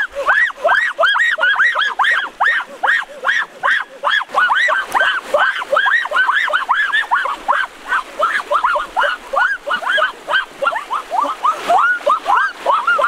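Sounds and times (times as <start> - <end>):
piglet squealing: 0.3 - 13.0.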